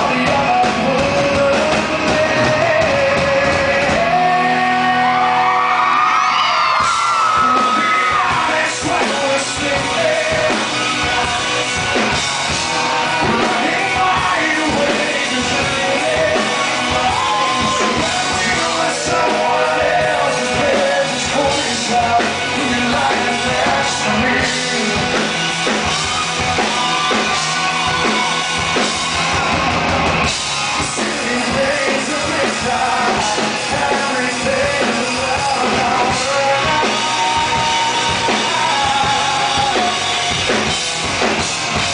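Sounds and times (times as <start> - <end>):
man singing lead vocals: 0.0 - 26.0, 30.8 - 40.9
live rock band playing: 0.0 - 41.9.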